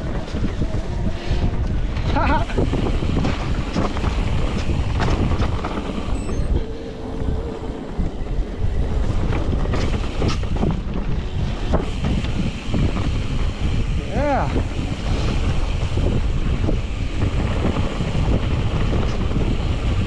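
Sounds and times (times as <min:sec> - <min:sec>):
bike knocks and rattles: 0:00.0 - 0:06.6, 0:08.0 - 0:20.0
low rumble: 0:00.0 - 0:20.0
wind on microphone: 0:00.0 - 0:20.0.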